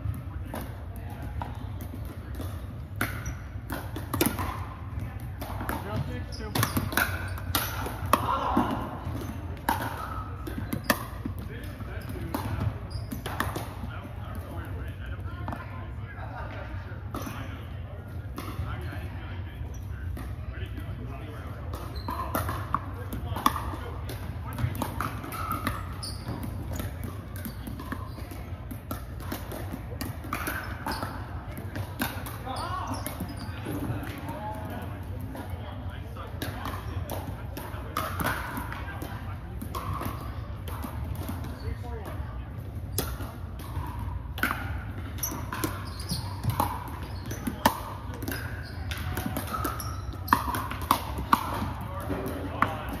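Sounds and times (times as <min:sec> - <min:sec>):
ball bouncing on court: 0:00.0 - 0:15.7, 0:17.1 - 0:53.0
paddles hitting plastic ball: 0:00.1 - 0:14.6, 0:21.7 - 0:42.2, 0:42.8 - 0:53.0.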